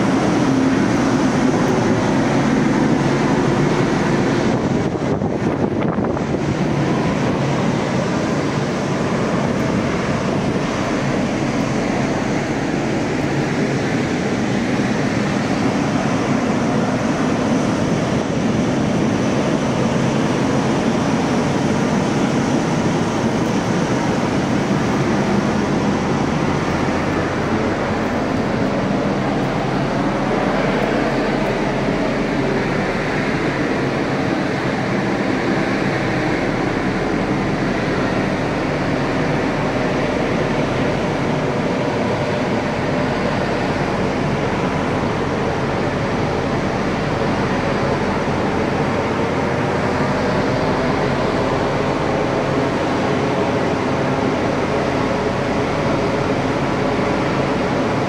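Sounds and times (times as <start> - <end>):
ship engine drone: 0.0 - 58.0.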